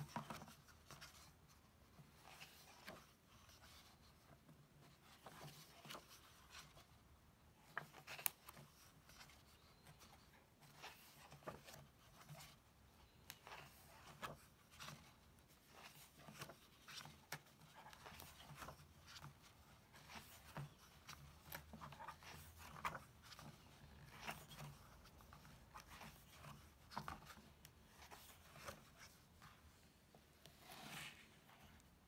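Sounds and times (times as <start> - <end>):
book pages rustling and turning: 0.0 - 32.0.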